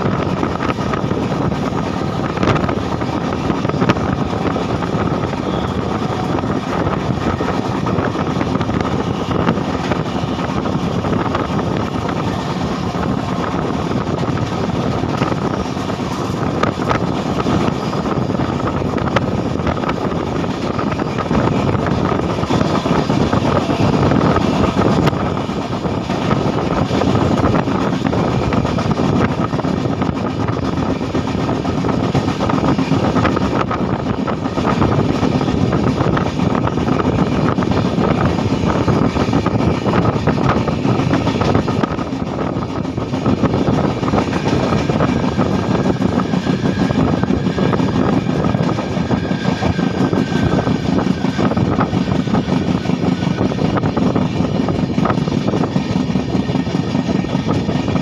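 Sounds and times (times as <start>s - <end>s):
train wheels rolling on rails: 0.0s - 58.0s
wind rushing past: 0.0s - 58.0s.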